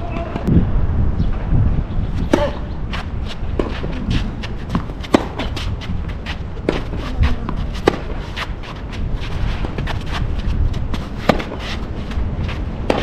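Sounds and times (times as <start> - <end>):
racket hitting ball: 2.2 - 13.0
tennis ball bouncing: 2.2 - 13.0.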